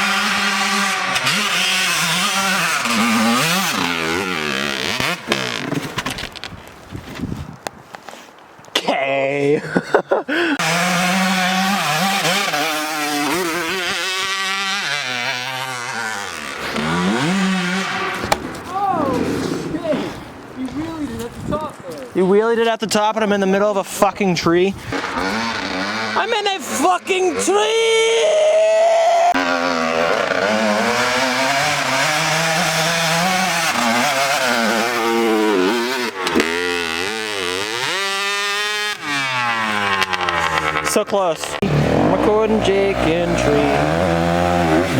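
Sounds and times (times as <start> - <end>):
dirt bike engine revving: 0.0 - 6.1, 10.6 - 20.3, 24.7 - 44.9.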